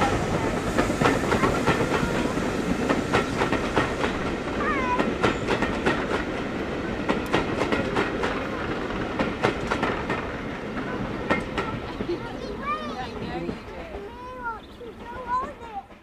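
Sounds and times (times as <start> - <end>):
train wheels clicking and rumbling: 0.0 - 16.0.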